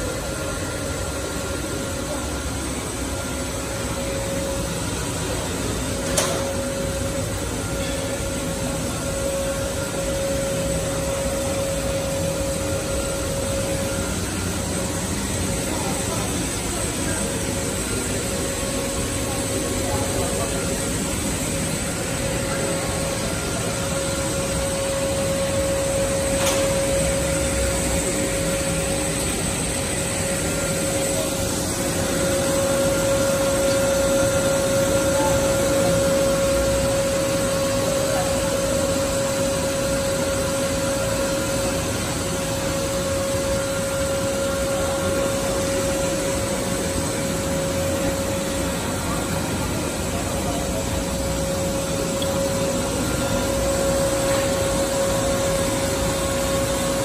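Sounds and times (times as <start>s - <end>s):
constant mid-pitched machine tone: 0.0s - 57.0s.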